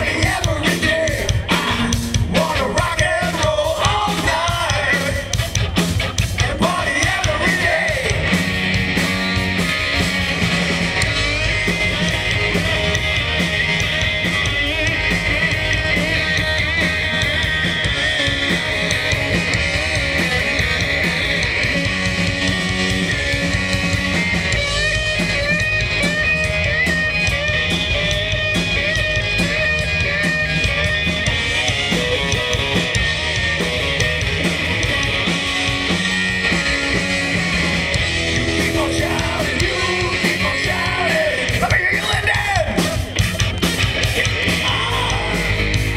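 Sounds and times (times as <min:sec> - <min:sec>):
electric guitar: 0:00.0 - 0:45.9
rock band playing live: 0:00.0 - 0:45.9
steady drum beat: 0:00.0 - 0:45.9.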